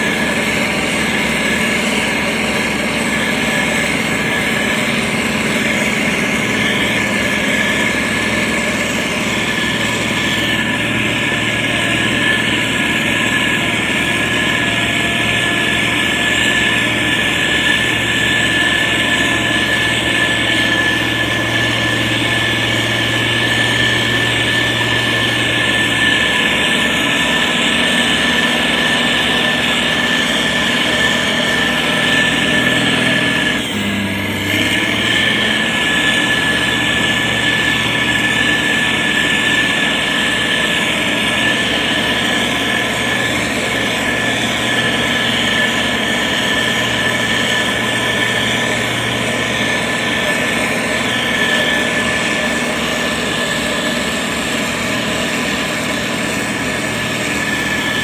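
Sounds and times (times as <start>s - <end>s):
diesel engine running: 0.0s - 58.0s
high whine: 0.0s - 58.0s.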